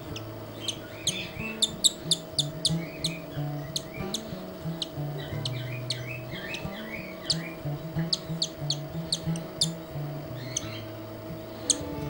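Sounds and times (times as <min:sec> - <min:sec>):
bird chick cheeping: 0:00.0 - 0:10.9, 0:11.5 - 0:12.0.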